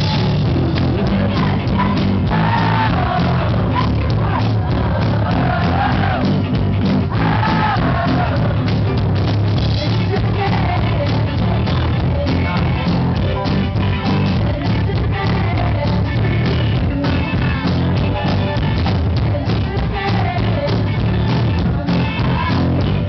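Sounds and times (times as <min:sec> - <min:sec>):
person singing: 0:00.0 - 0:09.0, 0:09.7 - 0:23.0
rock band playing loudly: 0:00.0 - 0:23.0.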